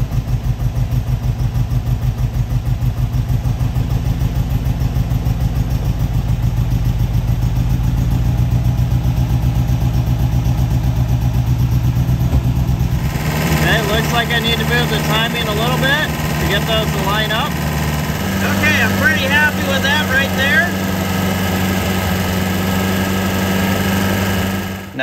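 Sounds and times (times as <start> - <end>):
car engine at raised idle: 0.0 - 25.0.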